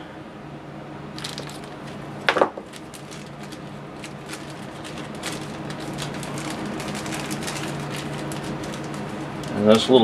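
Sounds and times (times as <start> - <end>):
plastic bag crinkling and clicking: 1.2 - 9.9.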